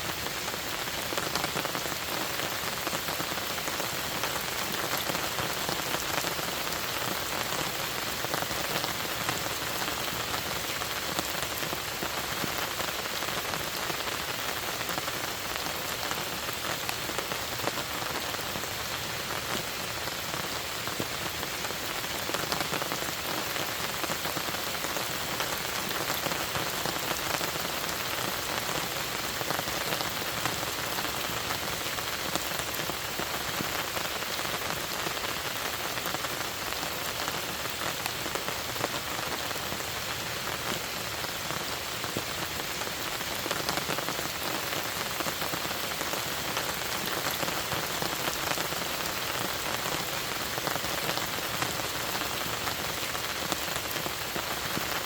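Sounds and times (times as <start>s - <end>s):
rain falling on a lake: 0.0s - 55.0s.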